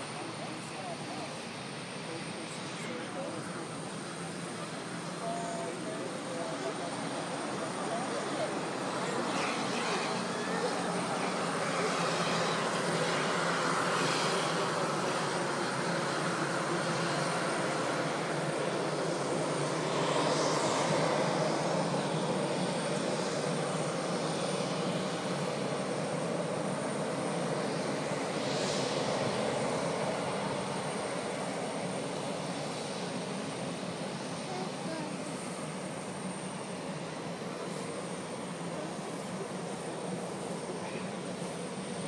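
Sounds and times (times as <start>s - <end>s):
high engine whine: 0.0s - 42.0s
jet engine rumble: 0.0s - 42.0s.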